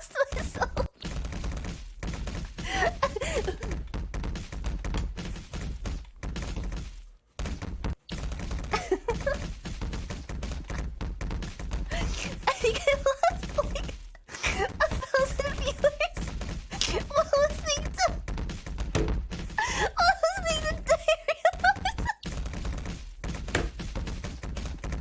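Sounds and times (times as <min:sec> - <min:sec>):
knocks and thuds: 0:00.3 - 0:25.0.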